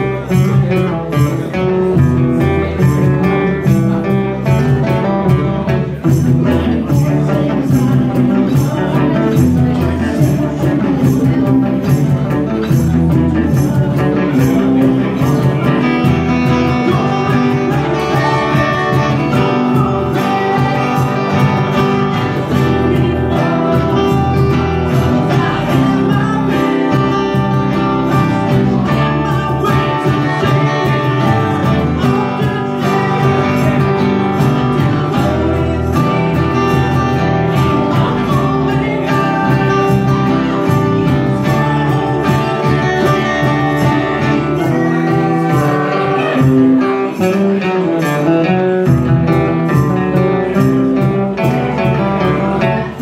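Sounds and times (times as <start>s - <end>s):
live band with acoustic guitars: 0.0s - 53.0s.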